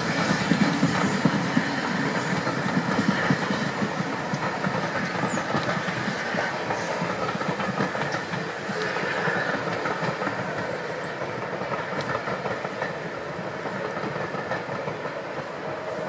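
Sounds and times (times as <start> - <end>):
train wheels clicking over rail joints: 0.0 - 16.0.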